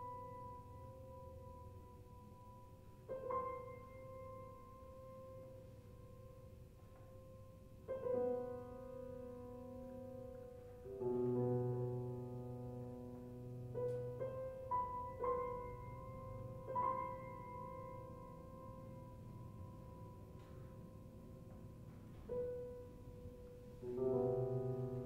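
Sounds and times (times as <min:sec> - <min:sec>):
slow quiet piano music: 0:00.0 - 0:25.0.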